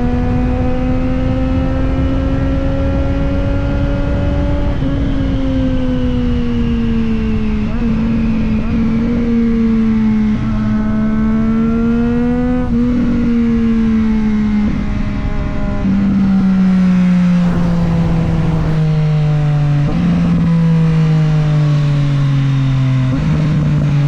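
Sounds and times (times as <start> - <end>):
motorcycle engine and exhaust running: 0.0 - 24.0.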